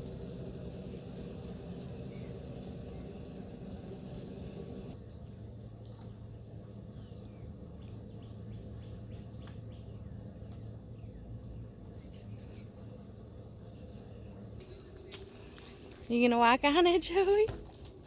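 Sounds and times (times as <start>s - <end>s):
low steady rumble: 0.0s - 18.0s
birds chirping: 0.2s - 15.8s.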